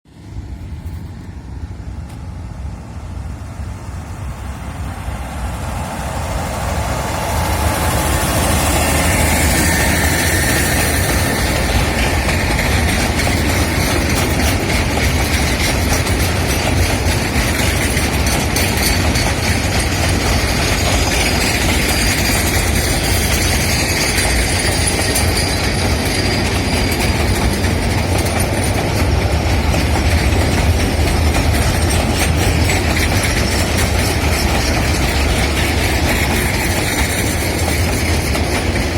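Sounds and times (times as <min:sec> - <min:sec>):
train wagons rumbling and rattling: 0:00.1 - 0:38.9
wheels squealing: 0:07.3 - 0:38.9.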